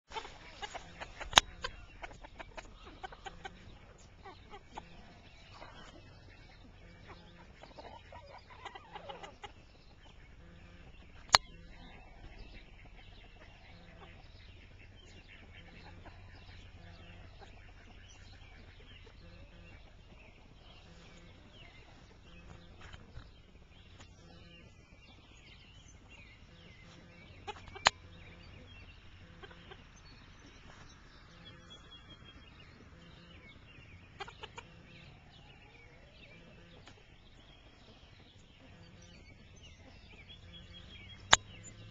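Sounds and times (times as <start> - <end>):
chickens clucking softly: 0.1 - 41.9.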